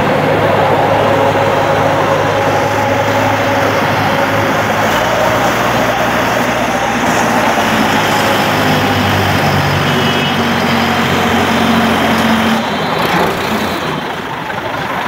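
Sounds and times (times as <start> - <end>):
tractor engine passing: 0.0 - 15.0
traffic noise: 0.0 - 15.0.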